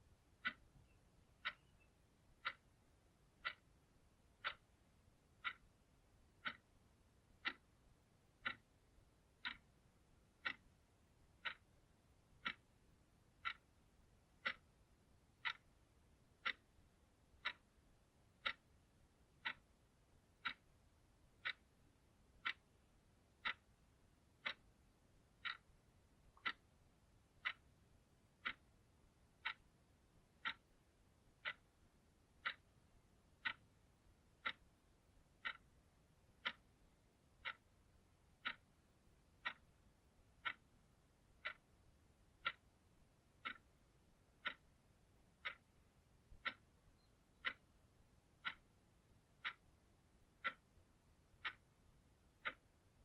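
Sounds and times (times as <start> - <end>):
clock ticking: 0.0 - 53.0.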